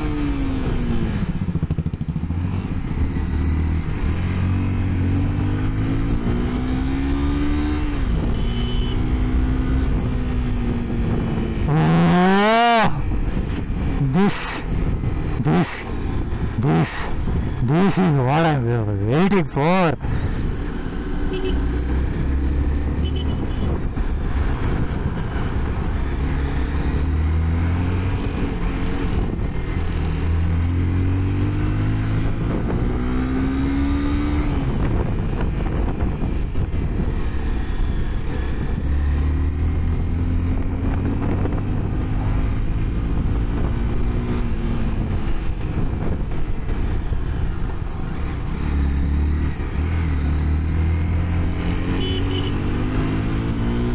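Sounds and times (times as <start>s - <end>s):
motorcycle engine revving: 0.0s - 19.3s, 20.1s - 53.9s
wind and road noise: 0.0s - 53.9s.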